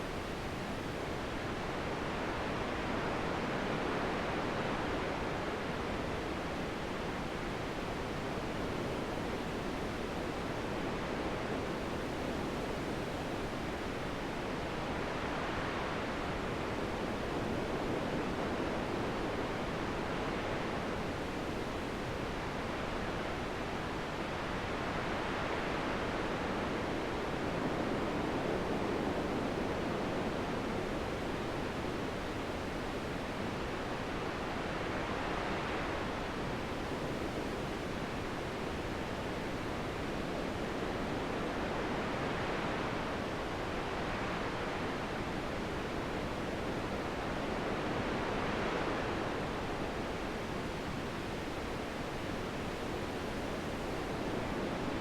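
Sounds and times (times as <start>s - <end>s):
wind blowing in gusts: 0.0s - 55.0s.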